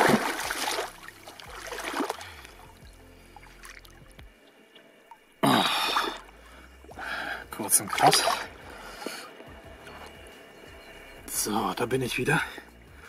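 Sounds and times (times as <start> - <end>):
fish splashing in shallow water: 0.0 - 11.0.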